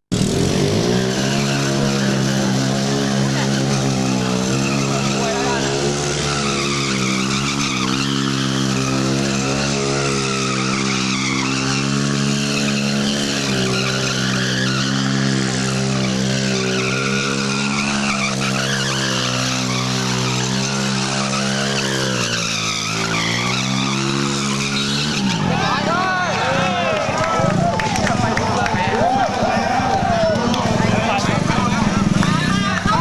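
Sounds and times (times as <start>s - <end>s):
motorcycle engine at high revs: 0.0s - 33.0s
tyre squealing on concrete: 0.1s - 26.7s.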